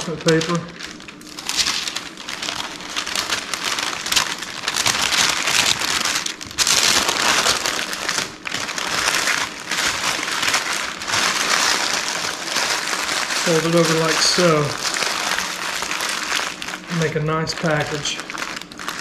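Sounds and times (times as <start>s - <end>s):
parchment paper crinkling: 0.0s - 19.0s.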